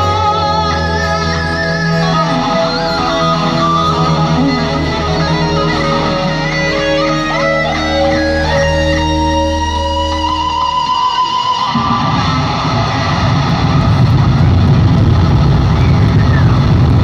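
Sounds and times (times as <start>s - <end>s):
band playing low drone: 0.0s - 17.0s
electric guitar solo: 0.0s - 17.0s.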